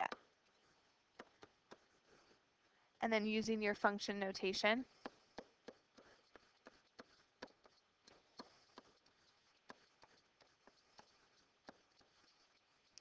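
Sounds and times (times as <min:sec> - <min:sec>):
stylus tapping on tablet screen: 0:01.1 - 0:02.0, 0:03.4 - 0:13.0.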